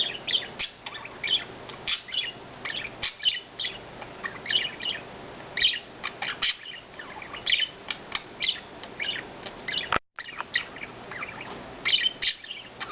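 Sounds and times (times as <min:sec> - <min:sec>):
budgies chirping and chattering: 0:00.0 - 0:12.9.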